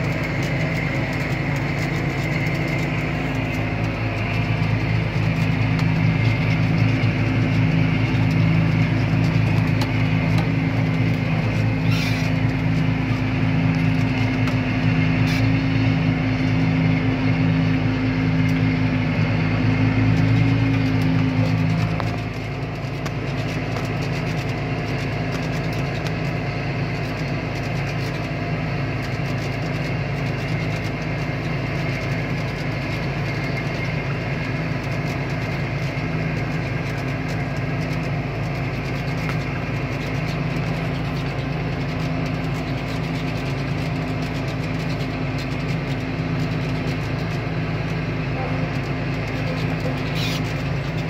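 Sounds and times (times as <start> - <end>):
tractor engine droning: 0.0 - 51.0.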